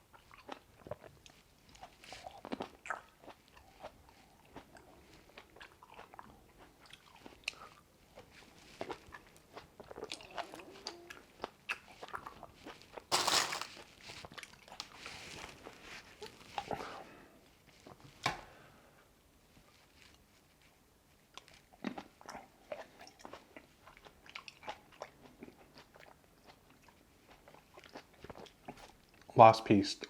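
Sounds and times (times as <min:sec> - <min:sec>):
chewing crisp grapes: 0:00.1 - 0:16.8, 0:21.2 - 0:29.4.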